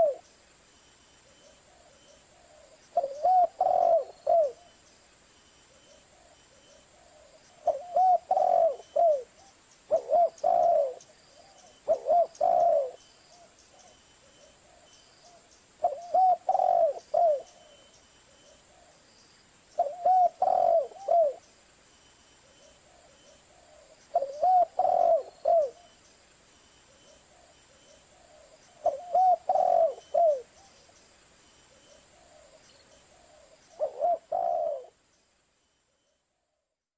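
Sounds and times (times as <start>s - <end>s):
dove cooing: 0.0s - 0.2s, 1.2s - 4.8s, 5.8s - 19.0s, 19.8s - 21.5s, 22.4s - 26.0s, 26.9s - 30.9s, 31.7s - 35.0s.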